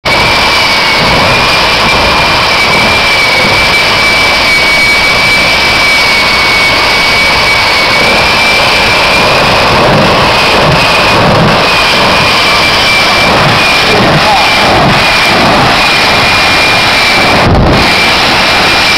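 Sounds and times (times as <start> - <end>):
high engine whine: 0.0 - 18.9
jet engine roaring: 0.0 - 18.9.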